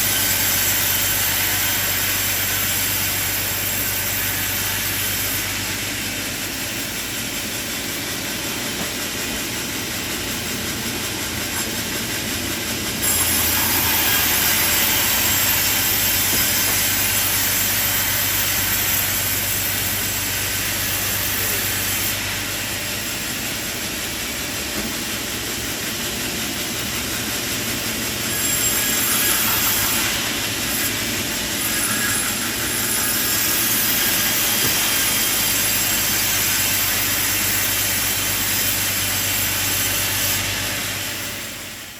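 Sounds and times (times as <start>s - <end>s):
saw cutting timber: 0.0s - 41.9s
sawmill machinery humming: 0.0s - 41.9s.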